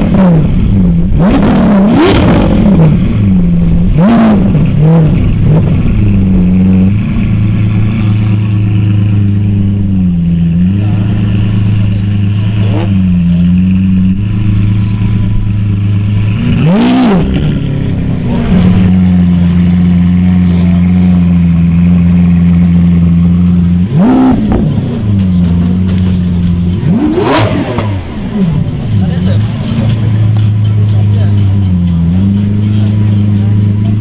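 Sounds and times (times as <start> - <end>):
sports car engine idling: 0.0 - 34.0.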